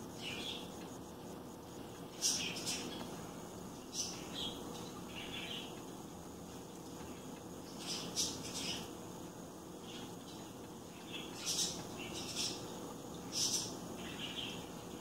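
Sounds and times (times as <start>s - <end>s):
small bird chirping: 0.0s - 1.1s, 1.7s - 3.2s, 3.8s - 6.0s, 6.9s - 15.0s
steady low hum: 0.0s - 15.0s.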